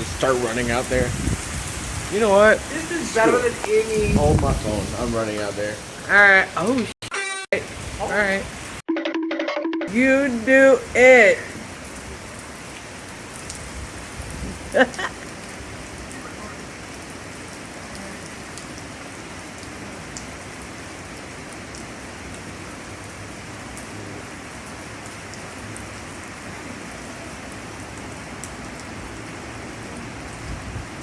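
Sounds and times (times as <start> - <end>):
heavy rain falling: 0.0 - 7.0, 7.6 - 8.8, 9.9 - 31.0.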